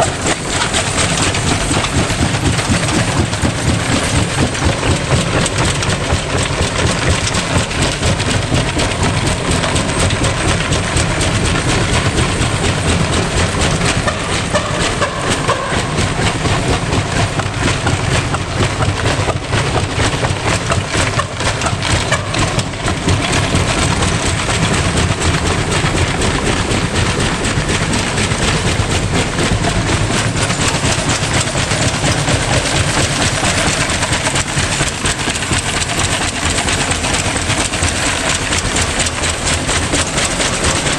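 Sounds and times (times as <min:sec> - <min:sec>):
washing machine banging and rattling: 0:00.0 - 0:40.9.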